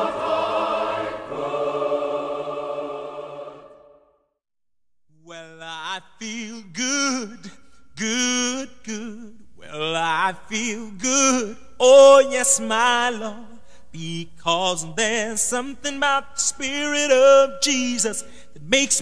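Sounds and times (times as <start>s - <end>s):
gospel singing voices: 0.0s - 4.0s, 5.2s - 19.0s.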